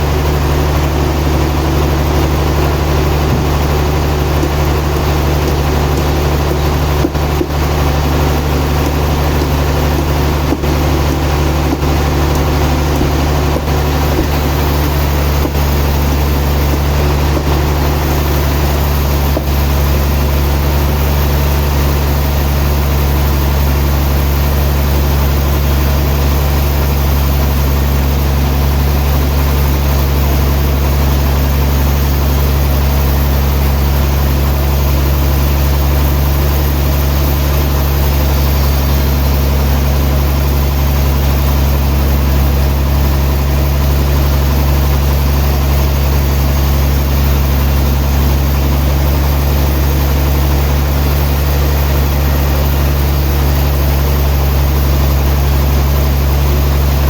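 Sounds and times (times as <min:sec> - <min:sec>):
sawmill engine drone: 0:00.0 - 0:57.0.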